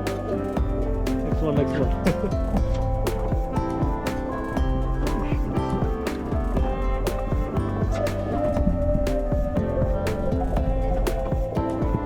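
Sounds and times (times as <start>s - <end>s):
plucked guitar music with beat: 0.0s - 12.0s.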